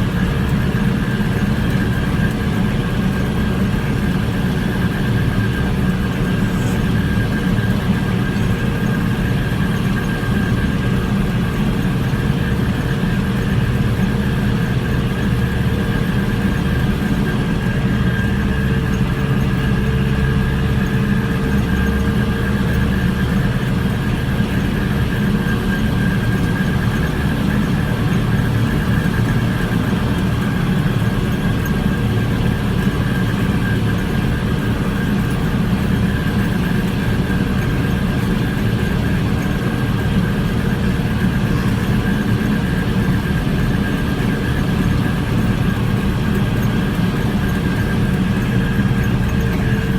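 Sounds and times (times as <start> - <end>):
tractor engine drone: 0.0 - 49.9.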